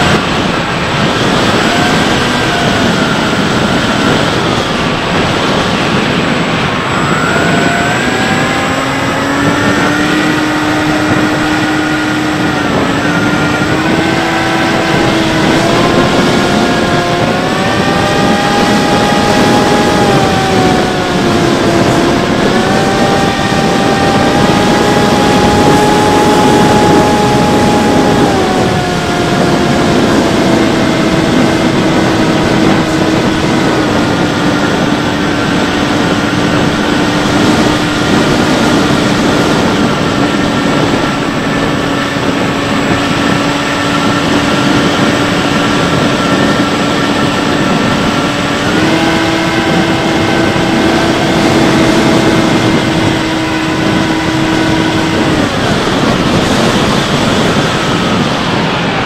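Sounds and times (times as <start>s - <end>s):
electric motor and propeller whining: 0.0s - 59.0s
wind rush: 0.0s - 59.0s.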